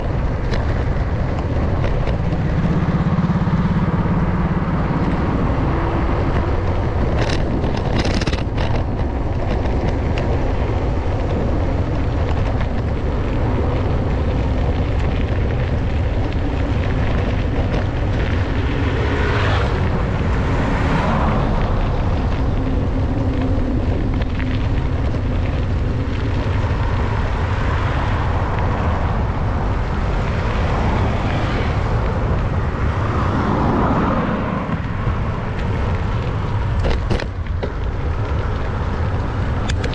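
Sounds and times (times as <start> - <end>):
road noise: 0.0 - 39.9
vehicles passing: 0.0 - 39.9
wind on microphone: 0.0 - 39.9.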